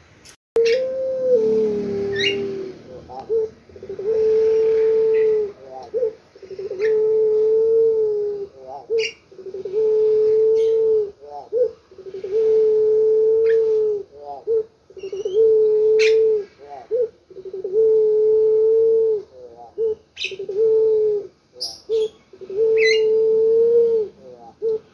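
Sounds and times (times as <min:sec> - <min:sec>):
dove cooing: 0:00.6 - 0:24.9.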